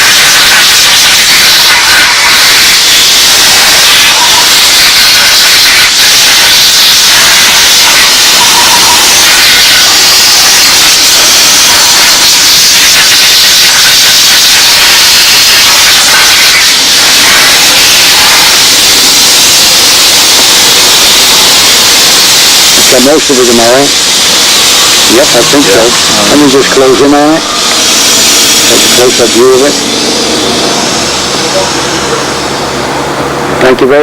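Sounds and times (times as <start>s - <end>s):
steam jet hissing: 0.0s - 33.6s.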